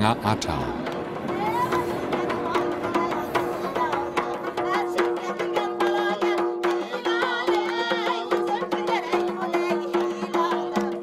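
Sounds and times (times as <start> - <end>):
drum beating steady rhythm: 0.0 - 11.0.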